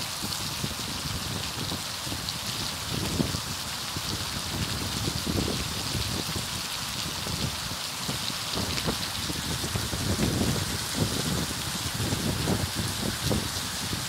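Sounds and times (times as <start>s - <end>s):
rain falling on gravel: 0.0s - 14.0s.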